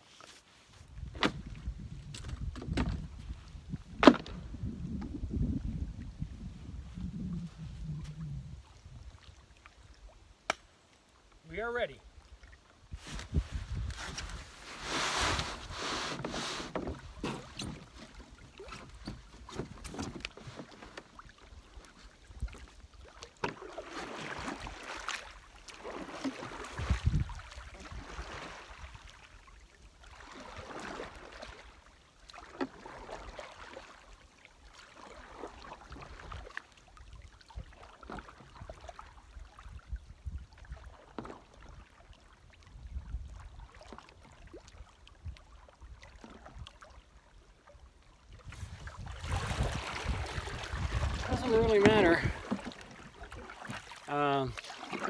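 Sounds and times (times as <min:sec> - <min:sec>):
canoe paddling splashes: 0:00.0 - 0:55.0
small waves lapping on shore: 0:07.0 - 0:55.0.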